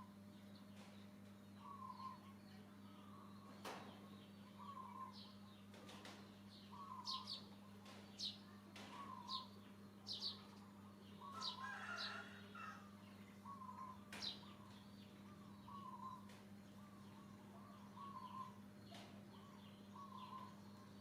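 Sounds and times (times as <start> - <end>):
bird calls: 0.0 - 21.0
steady low hum: 0.0 - 21.0.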